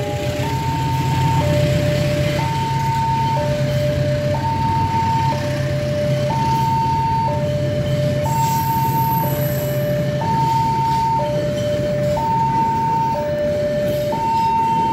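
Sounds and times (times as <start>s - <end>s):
train coaches rumbling past: 0.0s - 14.9s
two-tone crossing alarm: 0.0s - 14.9s.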